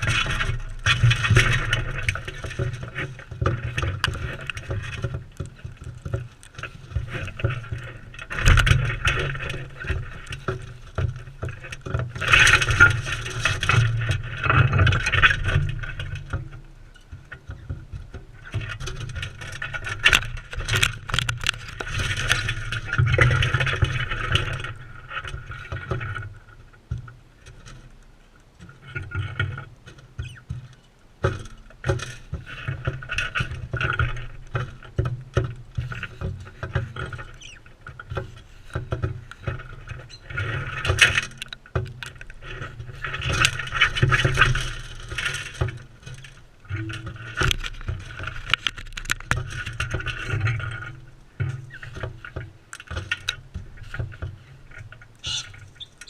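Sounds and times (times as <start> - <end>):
birds pecking and scraping: 0.0 - 56.0.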